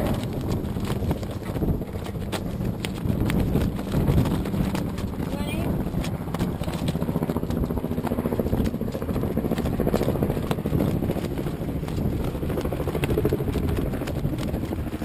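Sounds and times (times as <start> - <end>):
harbor water: 0.0 - 15.0
wind buffeting: 0.0 - 15.0.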